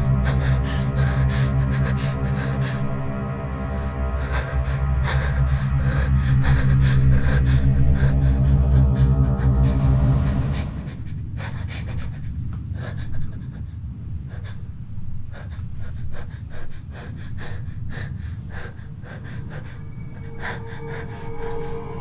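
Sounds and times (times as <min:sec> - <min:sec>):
low steady drone: 0:00.0 - 0:22.0
person panting: 0:00.0 - 0:22.0.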